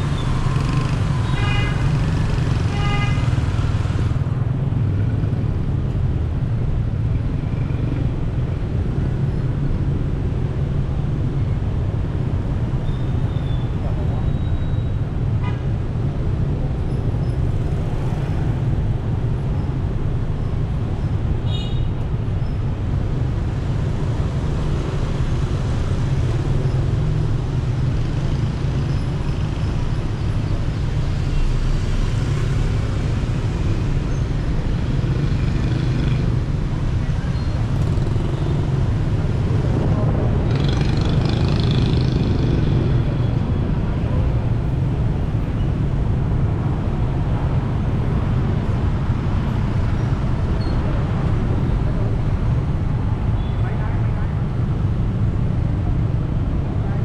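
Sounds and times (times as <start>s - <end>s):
motorbikes and cars: 0.0s - 57.0s
vehicle rumbling in traffic: 0.0s - 57.0s.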